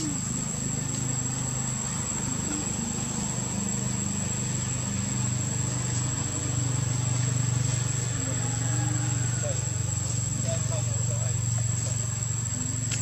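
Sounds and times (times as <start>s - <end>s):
distant engine humming: 0.0s - 13.0s.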